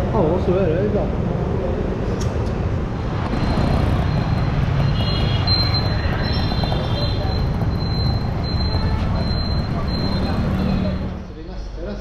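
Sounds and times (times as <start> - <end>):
busy city street traffic: 0.0 - 12.0
motorbikes running: 1.3 - 11.4.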